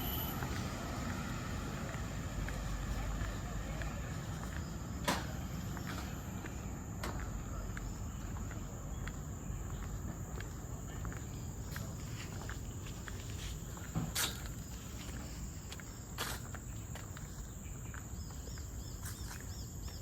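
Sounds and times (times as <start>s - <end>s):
insects droning: 0.0s - 20.0s
footsteps: 0.3s - 20.0s.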